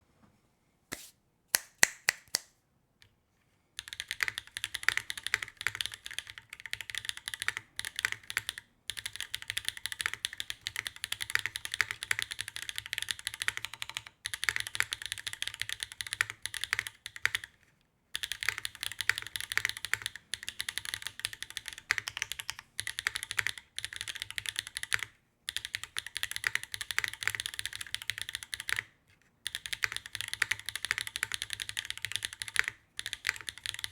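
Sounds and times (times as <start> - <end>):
mechanical keyboard typing: 3.8 - 17.6, 18.2 - 33.9.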